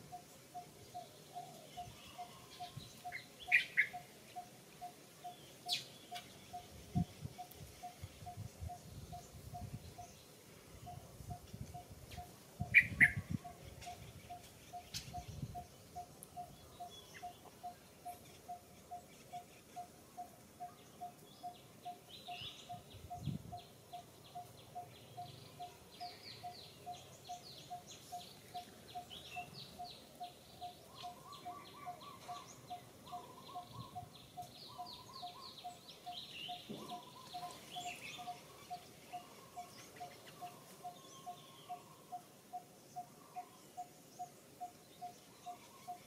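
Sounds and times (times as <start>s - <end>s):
high chirping bird trills: 0.1s - 10.2s, 12.2s - 46.0s.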